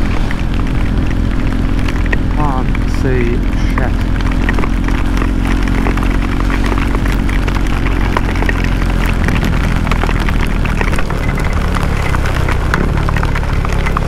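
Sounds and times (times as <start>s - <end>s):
motorcycle engine running: 0.0s - 14.0s
raindrops hitting camera: 0.0s - 14.0s.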